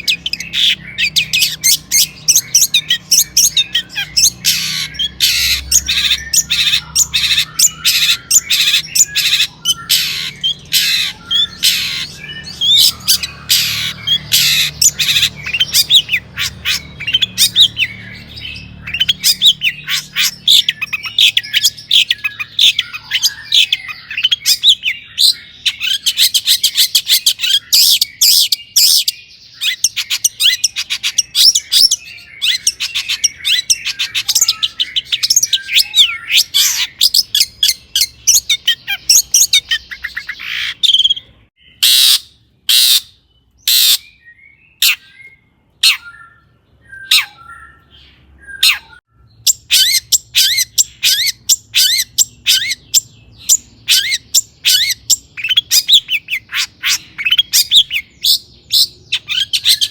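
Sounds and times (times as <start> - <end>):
bird singing harsh squawks: 0.0 - 59.9.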